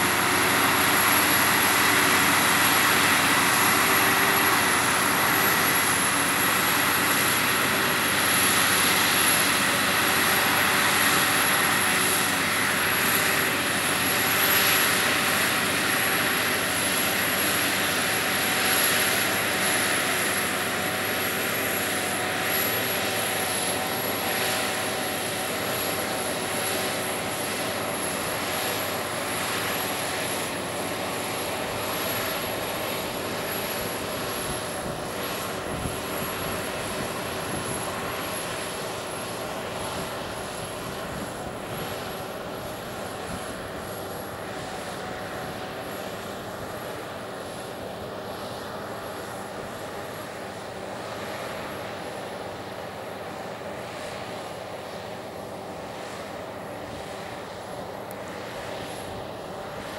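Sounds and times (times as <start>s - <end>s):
tractor diesel engine under load: 0.0s - 58.3s.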